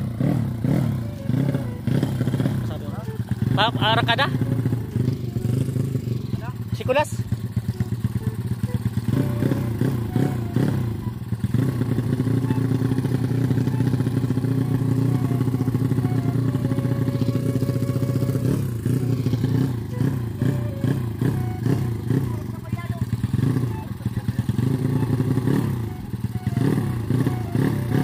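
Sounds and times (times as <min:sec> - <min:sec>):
motorcycle engine throttle blips: 0:00.0 - 0:28.0.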